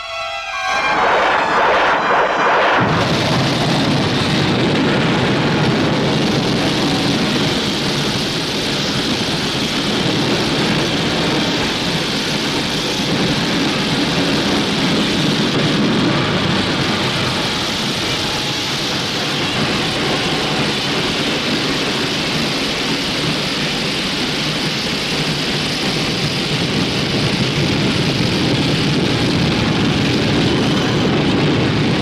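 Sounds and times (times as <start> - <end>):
loud steady rushing noise: 0.0 - 32.0.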